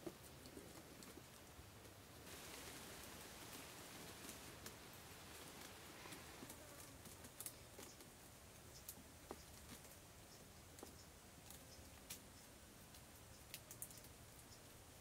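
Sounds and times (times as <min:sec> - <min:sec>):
small clicks and rustles: 0:00.0 - 0:15.0.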